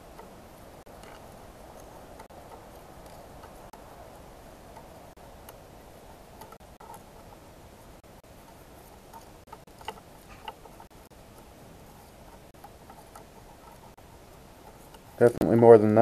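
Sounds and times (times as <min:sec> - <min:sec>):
faint background hum: 0:00.0 - 0:16.0.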